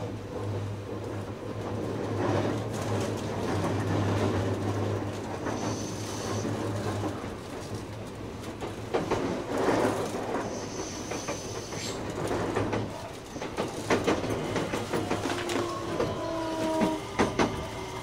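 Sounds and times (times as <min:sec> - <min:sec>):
train interior rumble: 0:00.0 - 0:18.0
wheels clacking over rail joints: 0:00.0 - 0:18.0.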